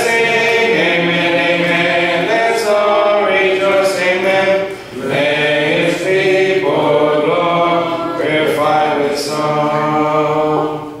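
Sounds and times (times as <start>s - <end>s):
hymn sung a cappella: 0.0s - 11.0s.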